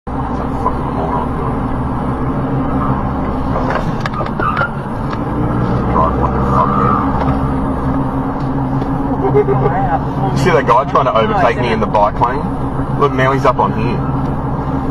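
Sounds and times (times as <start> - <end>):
car engine and road noise: 0.1 - 14.9.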